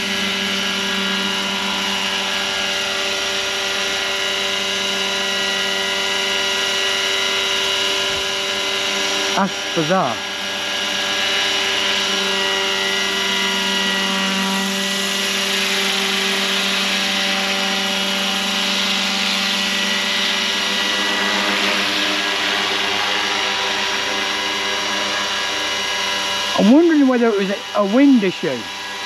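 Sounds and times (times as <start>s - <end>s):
rc helicopter rotor whine: 0.0s - 29.0s.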